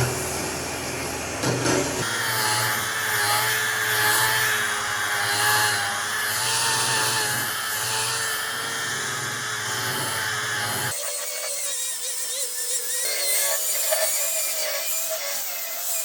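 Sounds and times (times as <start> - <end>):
power tool motor whine: 2.0 - 16.0.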